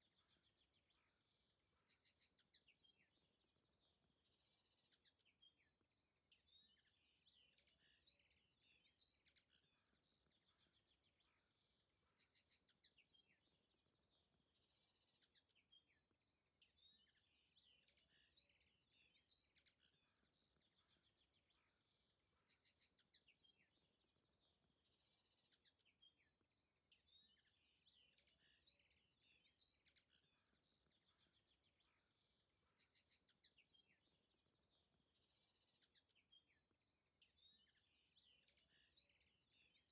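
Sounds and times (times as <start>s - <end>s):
faint songbird chirps: 0.0s - 39.9s.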